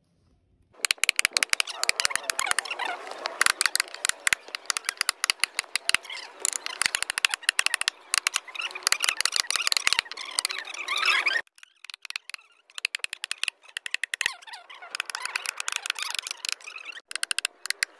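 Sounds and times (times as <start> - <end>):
chisel tapping wood: 0.8 - 11.2, 11.9 - 17.9.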